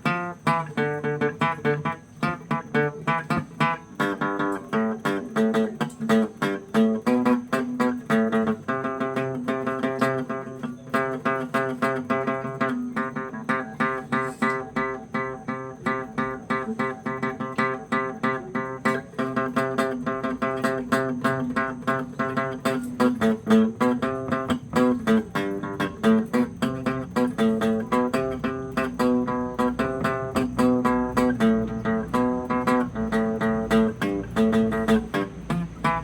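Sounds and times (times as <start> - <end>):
plucked guitar: 0.0 - 36.0.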